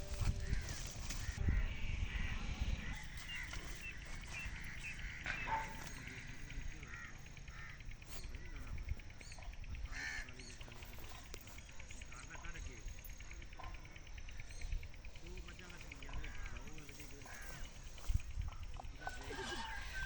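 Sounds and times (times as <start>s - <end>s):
crows cawing: 0.0s - 14.7s, 15.3s - 20.0s.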